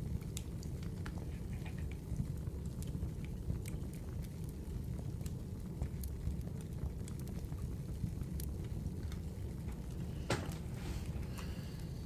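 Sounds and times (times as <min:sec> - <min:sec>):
sharp crack of fire: 0:00.0 - 0:12.0
wood fire crackling: 0:00.0 - 0:12.0.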